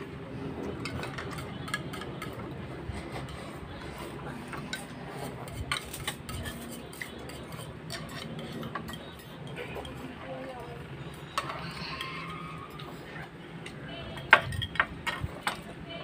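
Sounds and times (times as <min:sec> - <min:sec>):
chopsticks scraping bowls: 0:00.4 - 0:15.6.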